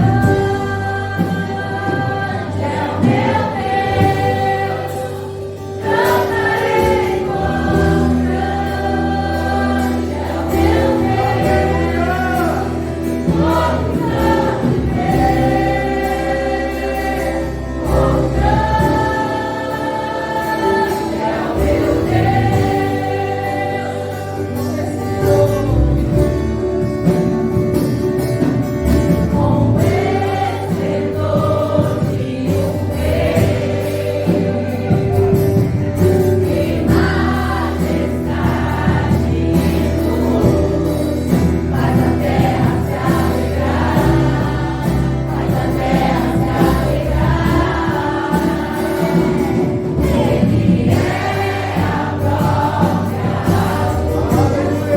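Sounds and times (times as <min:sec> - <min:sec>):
choir singing gospel song: 0:00.0 - 0:54.9
instrumental accompaniment: 0:00.0 - 0:54.9.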